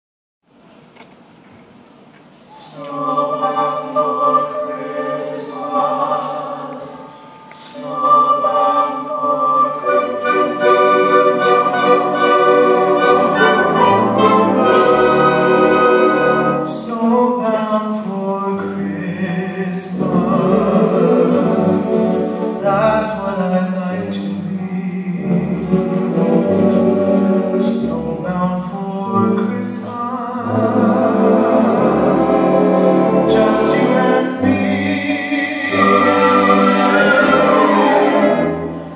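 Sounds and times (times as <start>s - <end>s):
orchestra playing sustained chords: 3.4s - 17.2s, 18.8s - 38.9s.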